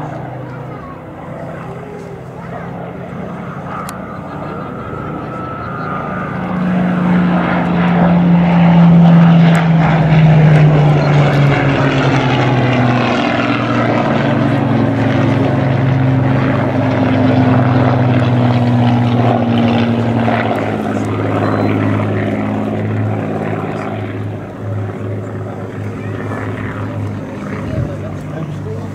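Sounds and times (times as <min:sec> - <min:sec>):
propeller plane engine passing: 0:00.0 - 0:28.9.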